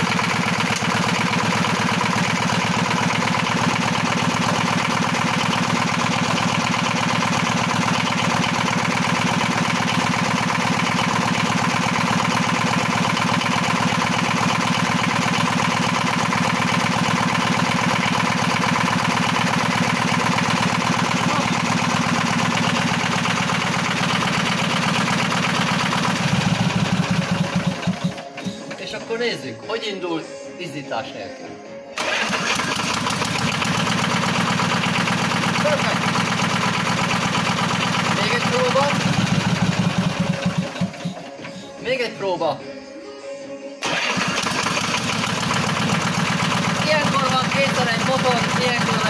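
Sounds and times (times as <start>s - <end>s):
diesel engine idling: 0.0s - 28.8s, 32.0s - 41.8s, 43.8s - 49.0s.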